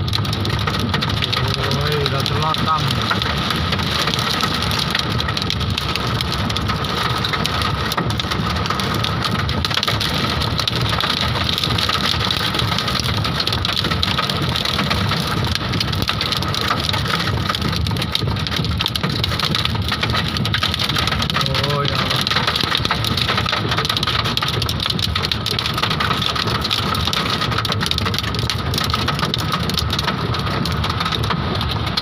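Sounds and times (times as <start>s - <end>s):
hail and heavy rain pelting: 0.0s - 32.0s.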